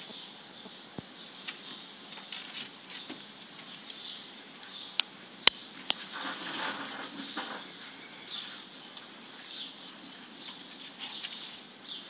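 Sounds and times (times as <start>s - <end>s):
rabbits nibbling and rustling hay: 0.0s - 12.0s.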